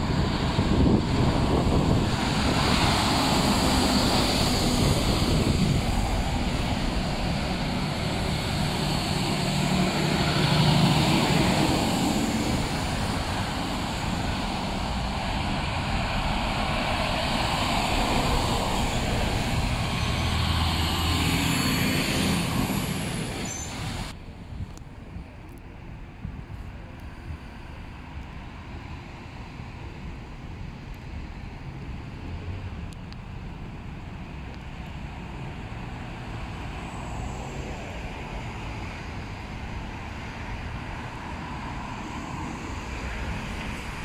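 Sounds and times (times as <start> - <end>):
diesel engines passing: 0.0 - 24.2, 27.8 - 44.0.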